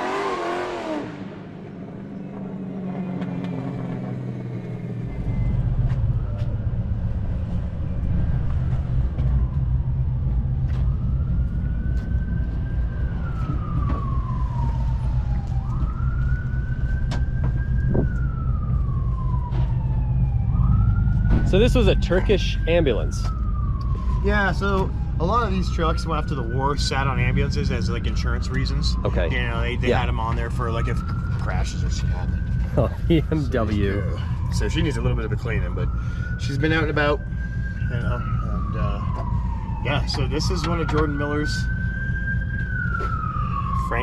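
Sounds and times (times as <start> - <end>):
ambulance siren wailing: 0.0 - 44.0.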